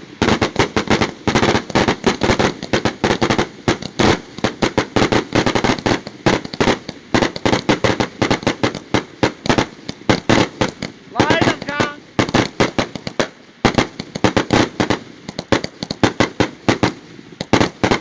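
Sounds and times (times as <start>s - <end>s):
fireworks launching and bursting: 0.0s - 18.0s.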